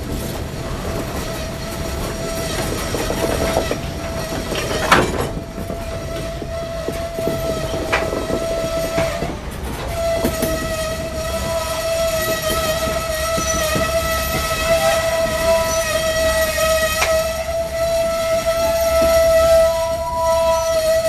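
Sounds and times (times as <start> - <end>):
diesel locomotive horn blast: 0.0 - 21.0
moving train rumble and clanks: 0.0 - 21.0.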